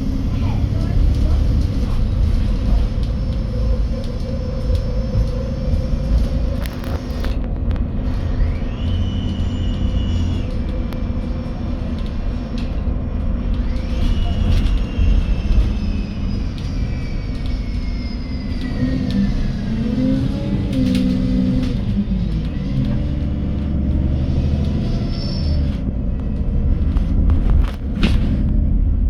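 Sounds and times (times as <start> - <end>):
bus engine running: 0.0 - 29.0
high whine of bus: 0.0 - 29.0.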